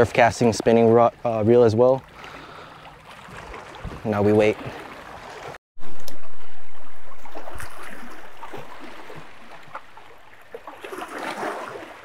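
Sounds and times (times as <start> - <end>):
waves lapping against rocks: 0.0 - 12.0.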